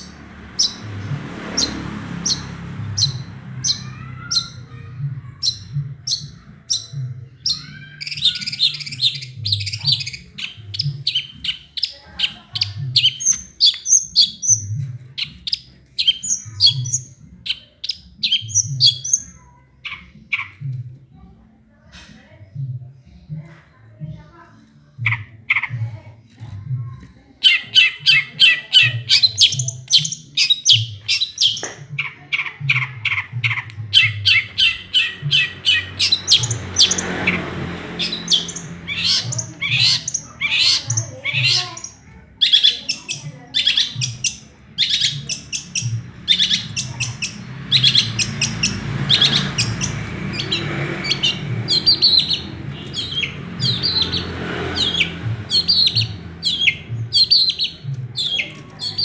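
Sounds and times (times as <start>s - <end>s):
bird singing chirps and trills: 0.0s - 20.8s, 26.9s - 59.0s.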